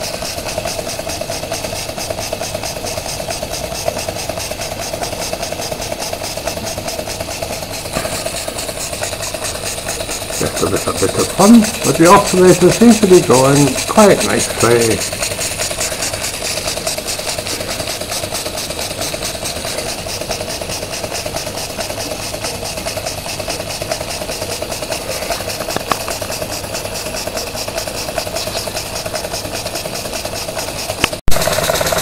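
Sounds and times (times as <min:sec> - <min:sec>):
model steam engine beating: 0:00.0 - 0:32.0.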